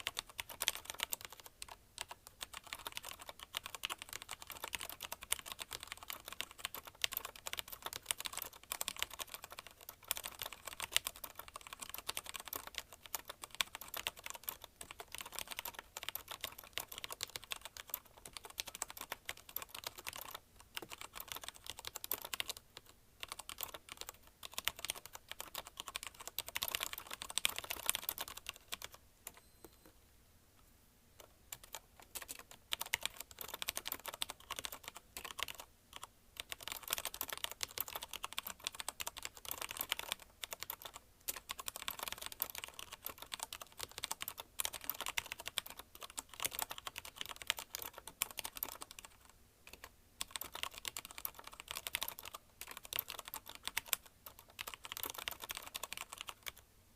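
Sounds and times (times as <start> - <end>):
mechanical keyboard typing: 0.0 - 29.8, 31.2 - 56.6.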